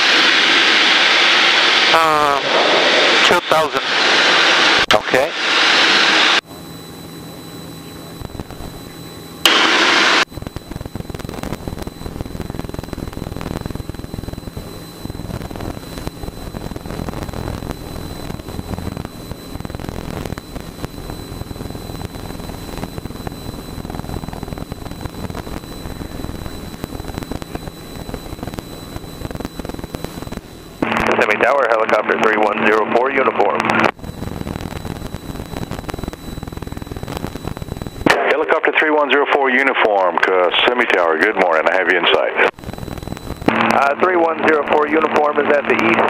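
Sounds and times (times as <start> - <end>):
airplane engine and airflow rumble: 0.0 - 46.0
burst of static: 0.0 - 46.0.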